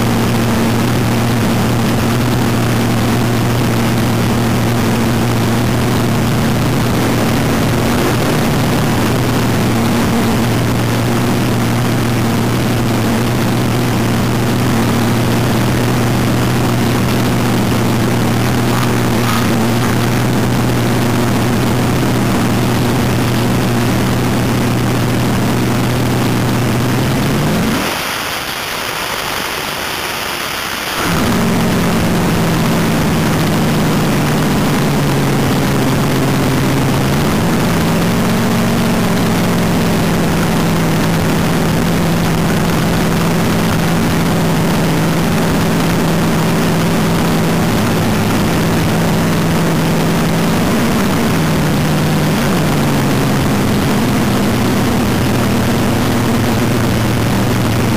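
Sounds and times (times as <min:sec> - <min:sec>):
dragster engine idling: 0:00.0 - 0:27.8, 0:31.0 - 0:57.9.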